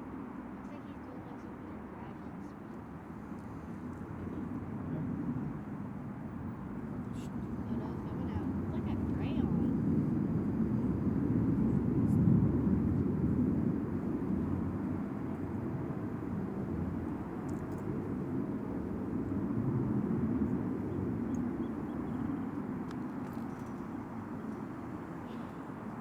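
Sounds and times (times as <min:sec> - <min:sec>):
jet engine rumble overhead: 0:00.0 - 0:26.0.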